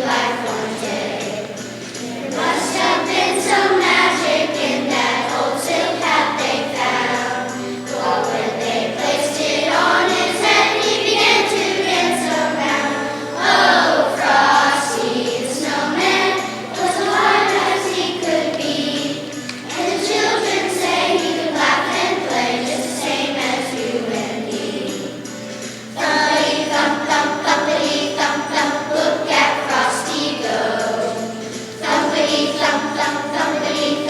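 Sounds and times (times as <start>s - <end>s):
choir singing: 0.0s - 34.0s
jingle bells shaking: 0.3s - 34.0s.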